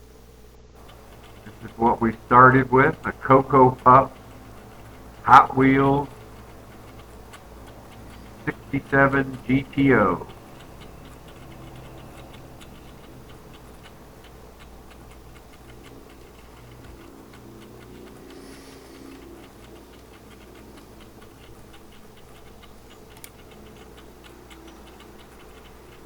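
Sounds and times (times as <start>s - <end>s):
low room hum: 0.0s - 26.0s
clock ticking: 0.8s - 26.0s.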